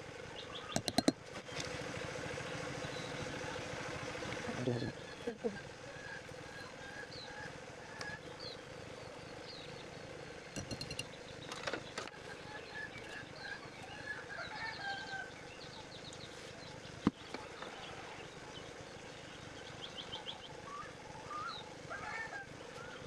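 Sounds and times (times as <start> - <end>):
faint steady hum: 0.0 - 23.0
birds chirping and trilling: 0.4 - 1.7, 2.4 - 23.0.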